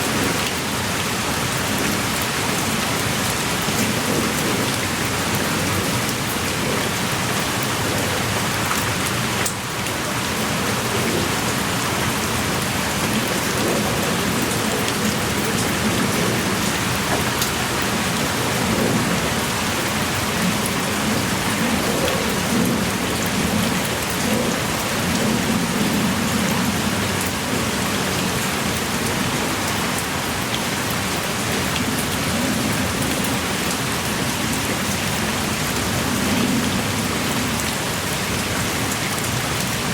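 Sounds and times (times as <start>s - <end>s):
heavy rain pouring: 0.0s - 39.9s
raindrops ticking: 0.1s - 33.9s.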